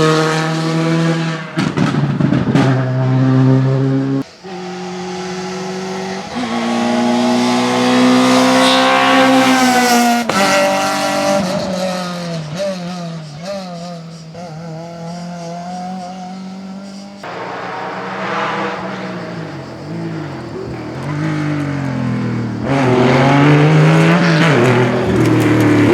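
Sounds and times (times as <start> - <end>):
rally car engine accelerating: 0.0 - 25.9.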